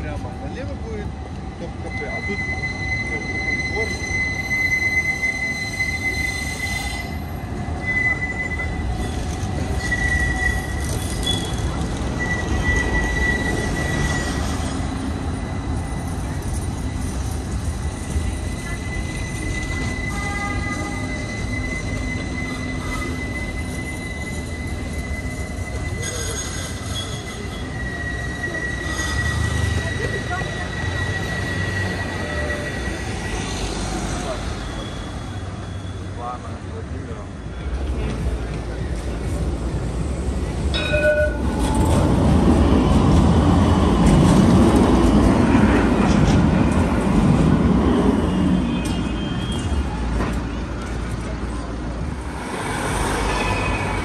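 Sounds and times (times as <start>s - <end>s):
tram high-pitched whine: 0.0s - 54.0s
tram rumble: 0.0s - 54.0s.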